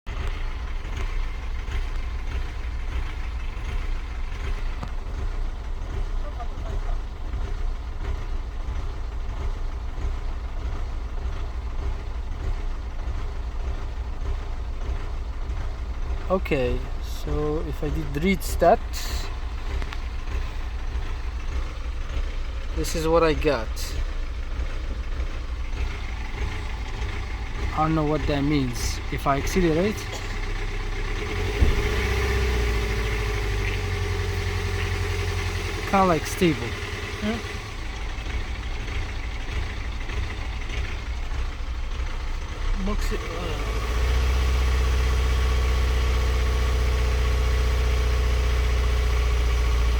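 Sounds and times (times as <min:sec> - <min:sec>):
diesel engine idling roughly: 0:00.1 - 0:49.9.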